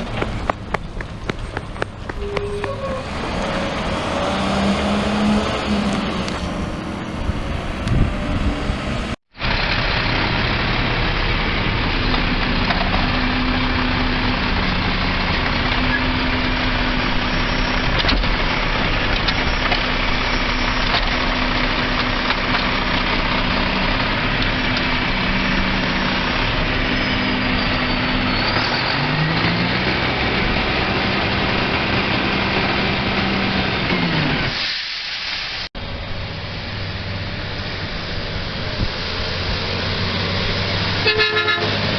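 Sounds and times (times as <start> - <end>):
garbage truck engine running: 0.0 - 34.5.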